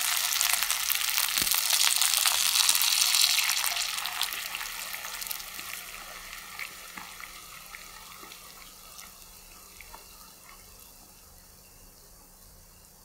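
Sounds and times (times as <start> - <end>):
liquid pouring into pan: 0.0 - 11.4
hissing and fizzing with pops: 0.0 - 13.0.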